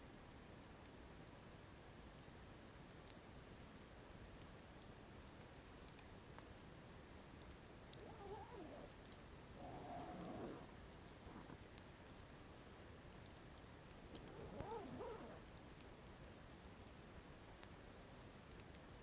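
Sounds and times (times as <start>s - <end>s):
campfire crackling: 3.1s - 18.8s.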